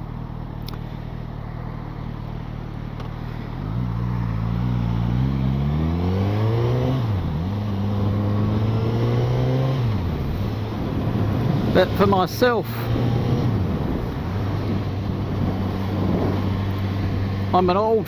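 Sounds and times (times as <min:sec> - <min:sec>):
motorcycle engine accelerating: 0:01.7 - 0:18.0.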